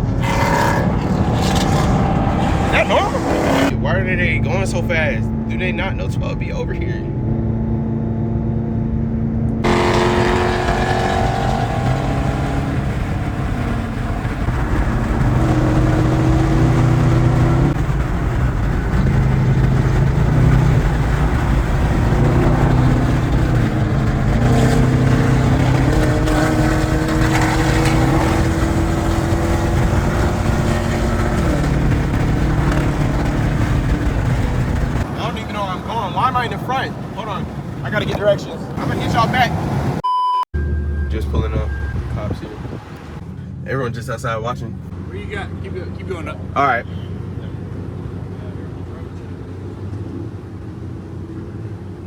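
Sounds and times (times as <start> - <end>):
car engines at speed: 0.0 - 40.0, 40.6 - 52.0
wind and road noise: 0.0 - 52.0.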